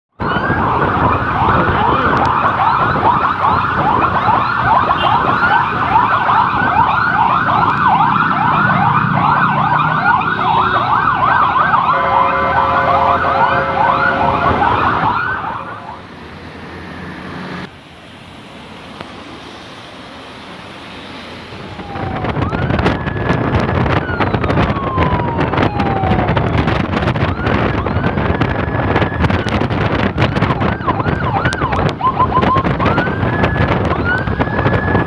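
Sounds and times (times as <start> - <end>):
wind and road noise: 0.1 - 35.0
electronic sirens yelping: 0.2 - 17.3, 21.5 - 35.0.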